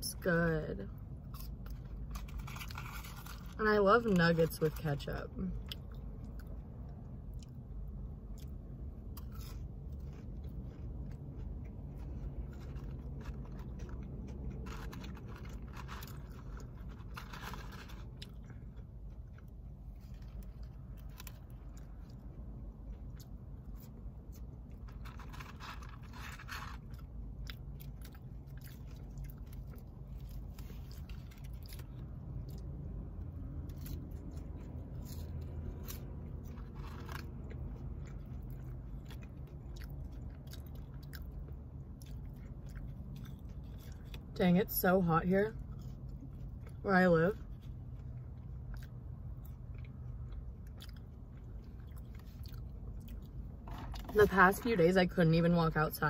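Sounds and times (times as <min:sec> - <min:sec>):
steady low hum: 0:00.0 - 0:56.0
person chewing crunchy food: 0:01.0 - 0:04.2, 0:05.5 - 0:44.3, 0:45.6 - 0:46.8, 0:47.4 - 0:54.2.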